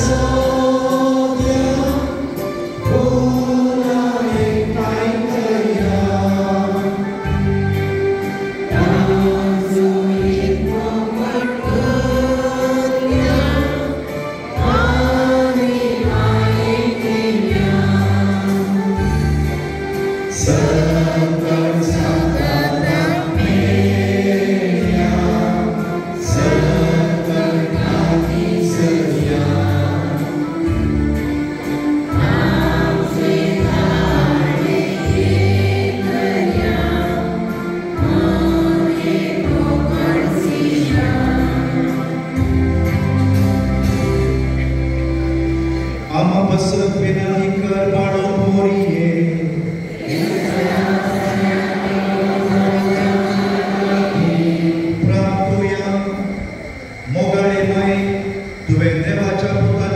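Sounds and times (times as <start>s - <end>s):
instrumental accompaniment with bass: 0.0s - 48.6s
congregation singing a hymn: 0.0s - 59.9s.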